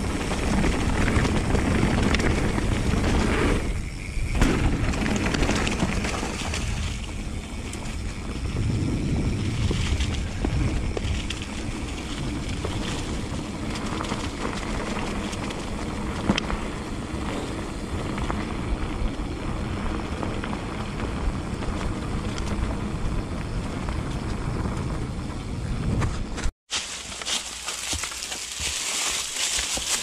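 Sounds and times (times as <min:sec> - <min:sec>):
wind rumbling on microphone: 0:00.0 - 0:26.5
bike clicks and rattles: 0:00.0 - 0:30.0
bike tyres rolling on dirt: 0:00.0 - 0:30.0.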